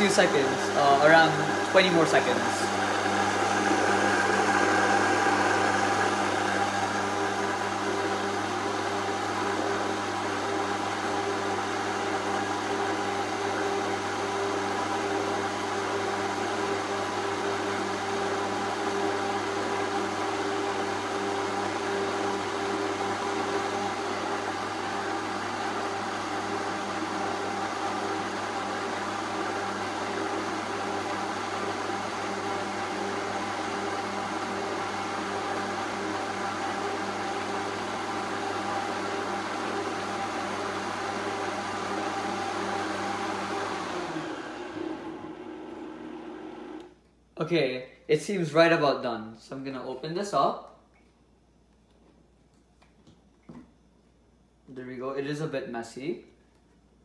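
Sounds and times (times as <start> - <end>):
blender motor whirring: 0.0 - 47.0.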